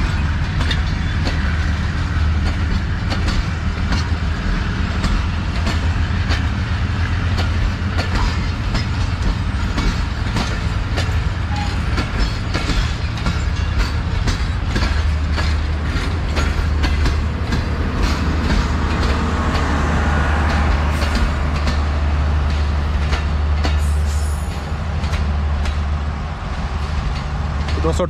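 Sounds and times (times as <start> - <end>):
heavy low train rumble: 0.0 - 28.0
train wheels clicking over rail joints: 0.0 - 28.0.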